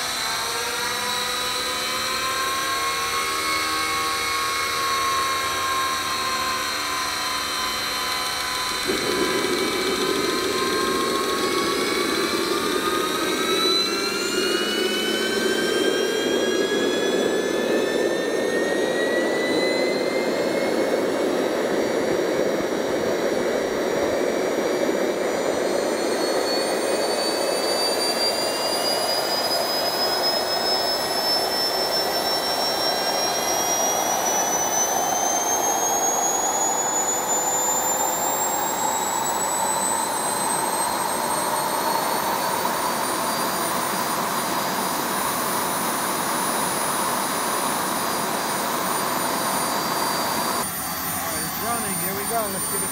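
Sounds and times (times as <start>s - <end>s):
turbojet engine roar and whine: 0.0s - 52.9s.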